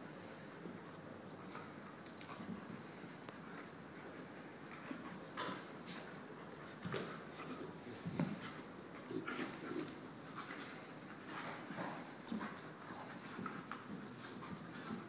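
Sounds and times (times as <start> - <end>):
puppies scuffling: 0.7 - 15.0.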